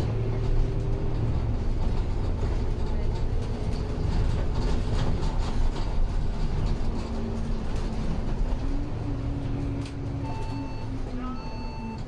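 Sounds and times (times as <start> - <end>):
bus engine and tyres rumbling: 0.0 - 12.0.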